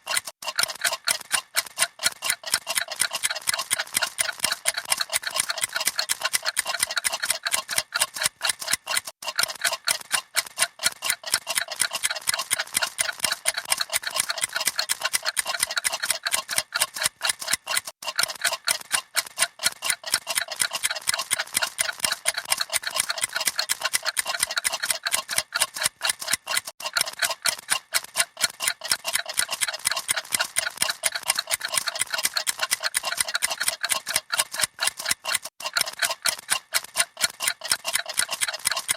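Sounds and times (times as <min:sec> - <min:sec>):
clocks ticking rapidly: 0:00.0 - 0:38.9.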